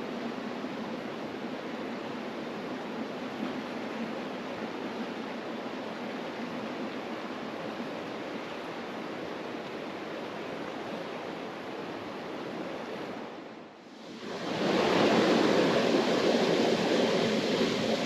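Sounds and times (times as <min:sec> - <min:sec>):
mountain river rushing: 0:00.0 - 0:18.0.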